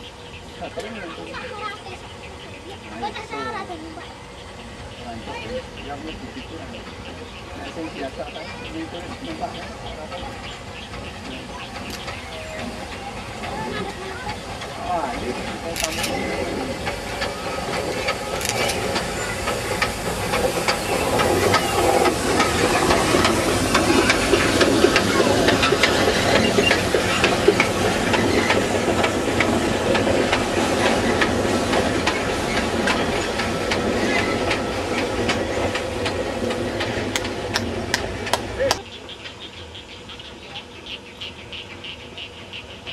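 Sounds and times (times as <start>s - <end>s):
steam locomotive hissing: 0.0s - 42.9s
wheels clicking on track: 0.0s - 42.9s.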